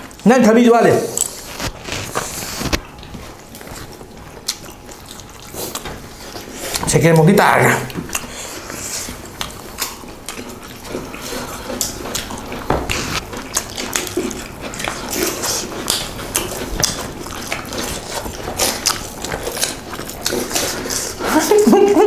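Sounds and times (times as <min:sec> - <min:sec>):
chewing: 0:01.0 - 0:22.0
lip-smacking: 0:01.0 - 0:22.0.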